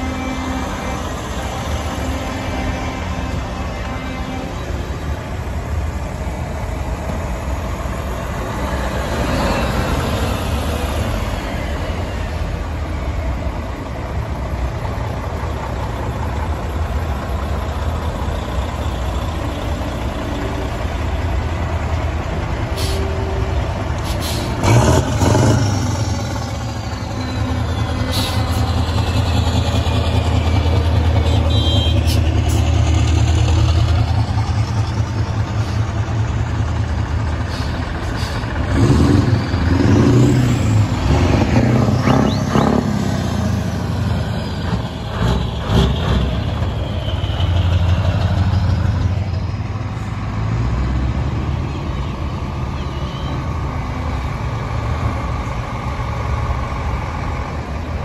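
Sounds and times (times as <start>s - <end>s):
truck diesel engines passing: 0.0s - 58.0s.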